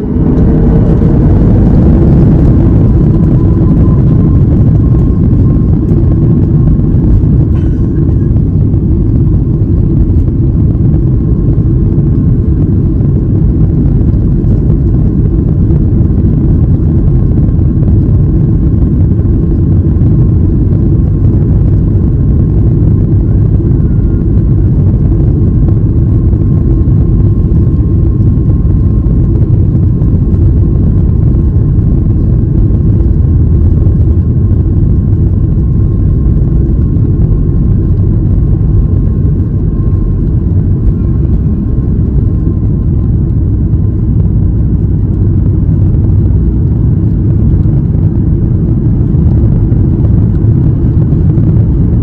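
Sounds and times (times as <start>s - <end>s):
airplane cabin engine rumble: 0.0s - 52.0s
faint steady whine: 0.0s - 52.0s.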